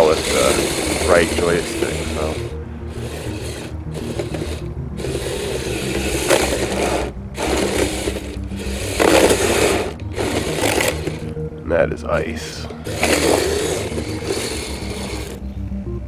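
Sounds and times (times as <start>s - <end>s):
tracks scraping over snow: 0.0s - 11.3s, 12.8s - 15.4s
electric motors whirring: 0.0s - 11.4s, 12.6s - 15.5s.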